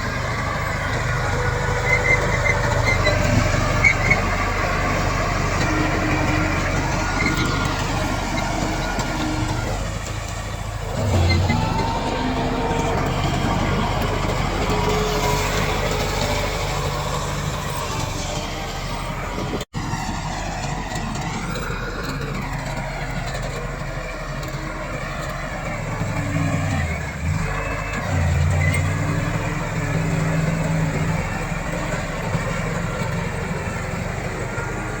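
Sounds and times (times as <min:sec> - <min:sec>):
bulldozer diesel engine under load: 0:00.0 - 0:35.0.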